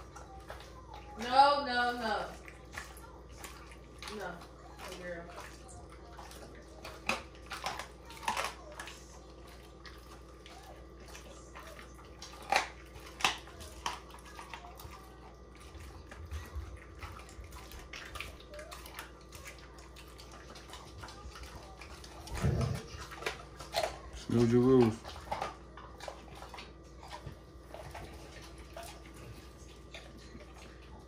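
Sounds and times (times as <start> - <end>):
dog licking and smacking mouth: 0.0 - 31.0.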